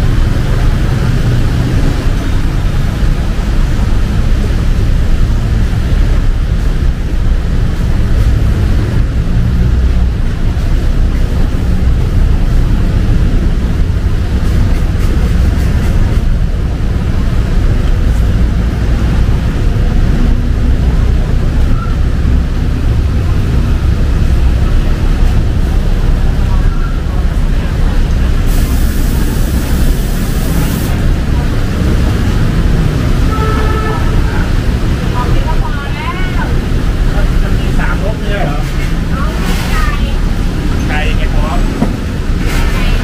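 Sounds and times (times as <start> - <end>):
city traffic rumble: 0.0 - 43.0.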